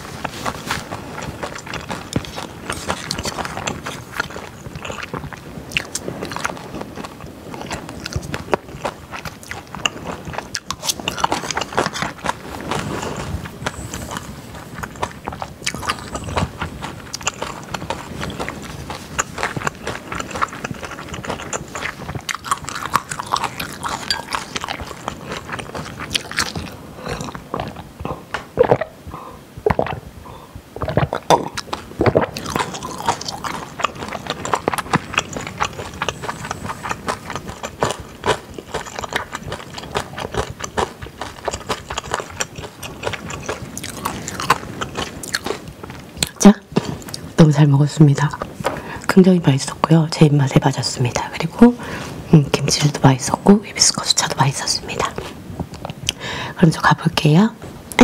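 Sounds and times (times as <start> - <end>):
chewing food: 0.0 - 29.0, 30.8 - 57.0.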